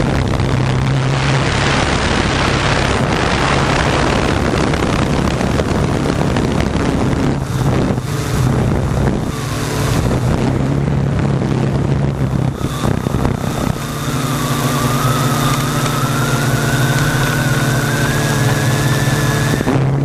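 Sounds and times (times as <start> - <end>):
drone propellers buzzing: 0.0 - 20.0
wind on microphone: 0.0 - 20.0.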